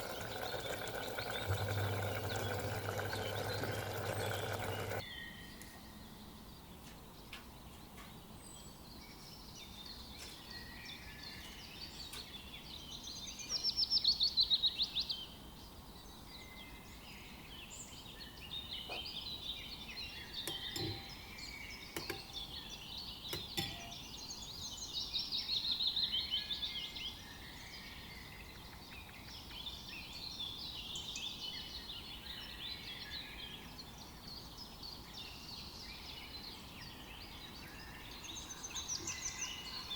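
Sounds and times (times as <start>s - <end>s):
birds singing: 0.0s - 39.9s
trilled bird songs: 0.0s - 39.9s.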